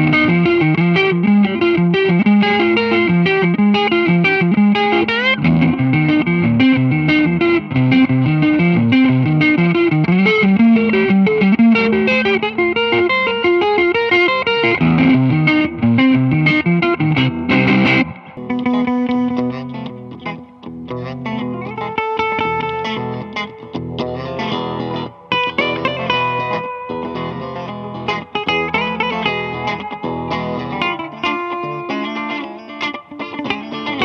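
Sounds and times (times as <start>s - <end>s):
electric guitar playing: 0.0s - 34.0s.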